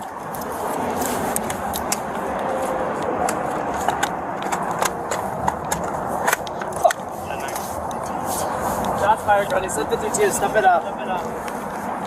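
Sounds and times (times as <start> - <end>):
gear rubbing against camera: 0.2 - 12.0.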